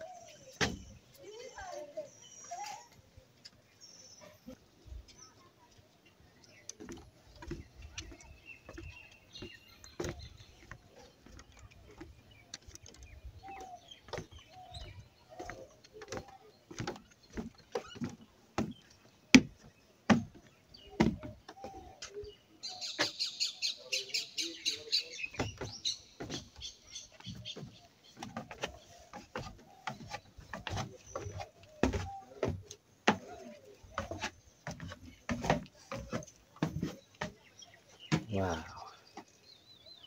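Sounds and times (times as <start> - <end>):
footsteps on wooden boards: 0.0 - 1.8, 4.5 - 22.4, 24.9 - 40.0
bird chirping: 0.0 - 40.0.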